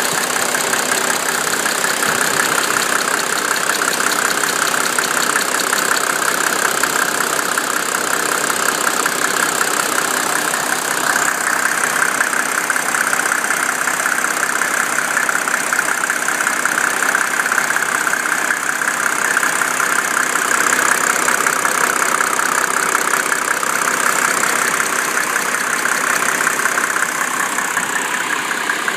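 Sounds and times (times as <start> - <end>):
diesel engine idling: 0.0 - 28.9
engine ticking: 0.0 - 28.9.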